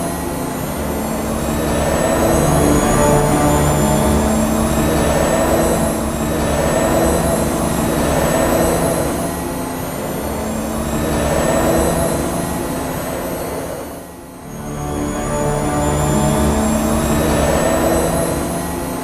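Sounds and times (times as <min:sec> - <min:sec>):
jet-like mechanical drone: 0:00.0 - 0:19.0.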